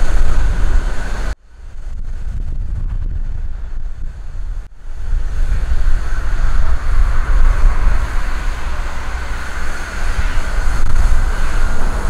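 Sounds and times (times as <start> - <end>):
vehicle road noise: 0.0 - 12.0
wind rumble on microphone: 0.0 - 12.0.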